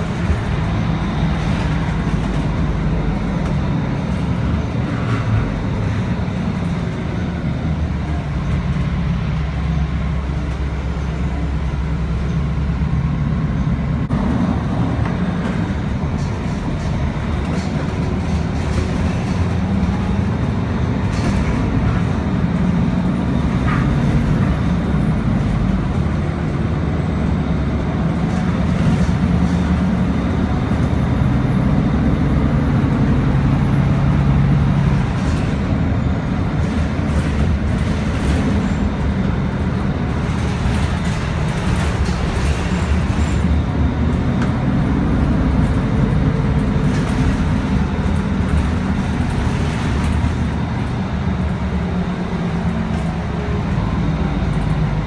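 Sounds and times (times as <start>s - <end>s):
bus engine: 0.0s - 55.0s
road noise: 0.0s - 55.0s.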